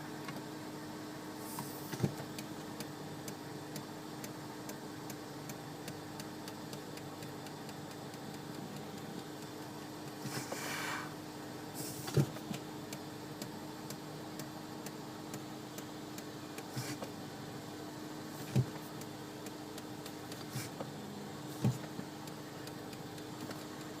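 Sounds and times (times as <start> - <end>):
steady hum: 0.0 - 24.0
light ticks from brakes: 0.1 - 0.6, 1.4 - 24.0.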